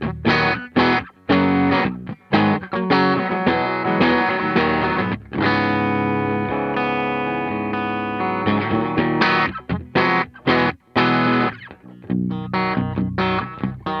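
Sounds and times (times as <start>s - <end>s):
electric guitar chords: 0.0s - 14.0s.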